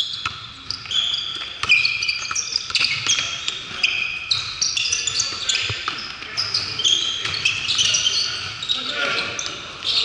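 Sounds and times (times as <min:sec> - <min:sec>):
shoes squeaking on gym floor: 0:00.0 - 0:10.0.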